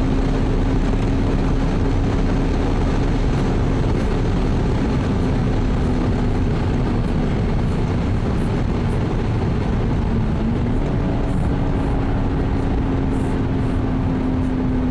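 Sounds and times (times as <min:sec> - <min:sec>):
car engine running: 0:00.0 - 0:14.9
road and wind noise: 0:00.0 - 0:14.9.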